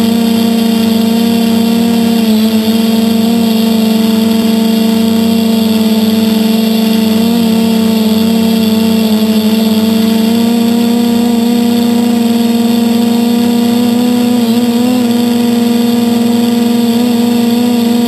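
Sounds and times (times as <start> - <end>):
quadcopter motors humming: 0.0 - 18.0.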